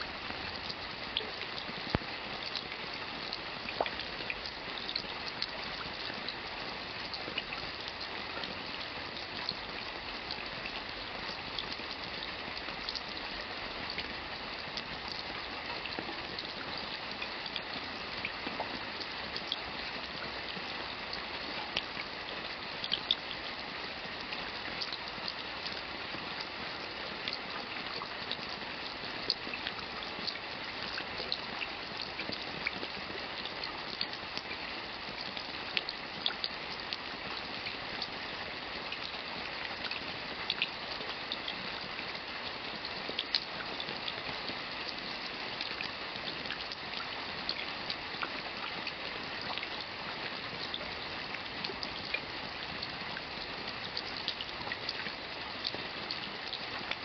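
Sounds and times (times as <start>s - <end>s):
raindrops ticking on surface: 0.0s - 57.0s
steady rain hiss: 0.0s - 57.0s.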